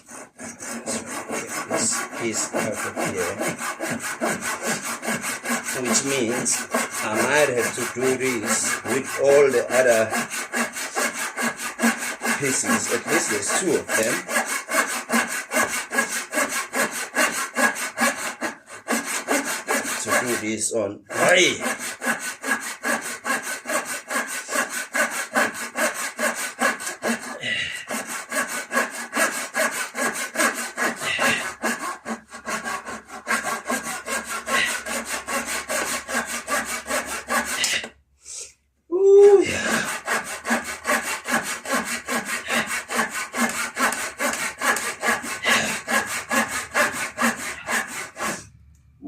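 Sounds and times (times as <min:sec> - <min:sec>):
hand saw cutting: 0:00.0 - 0:38.0, 0:39.0 - 0:48.6.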